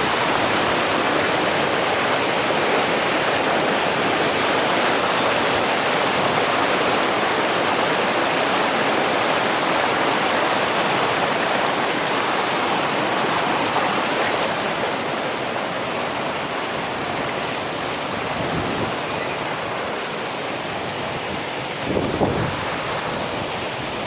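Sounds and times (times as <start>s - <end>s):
stream and waterfall rushing: 0.0s - 24.0s.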